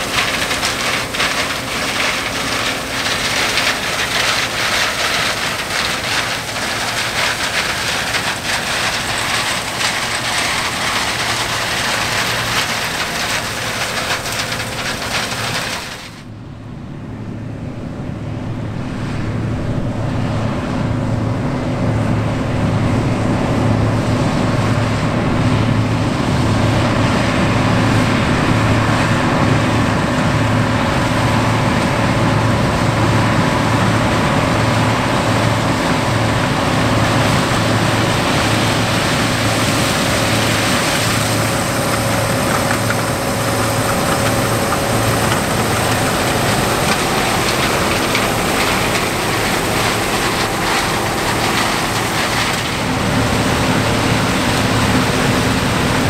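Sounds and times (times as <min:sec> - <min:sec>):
diesel engine running under load: 0:00.0 - 0:56.0
rumble of threshing machinery: 0:00.0 - 0:56.0.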